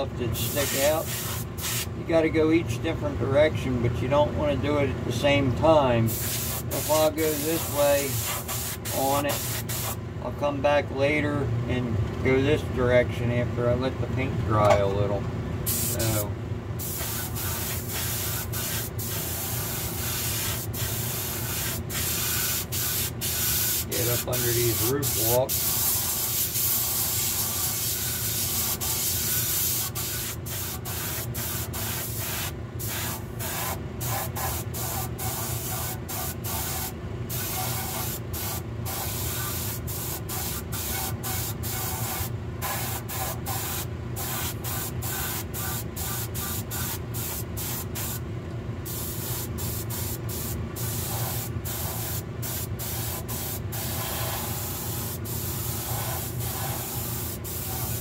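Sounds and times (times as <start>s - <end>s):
steady low hum: 0.0s - 58.0s
spray gun hissing: 0.5s - 1.9s, 6.1s - 10.0s, 15.7s - 48.2s, 48.9s - 58.0s.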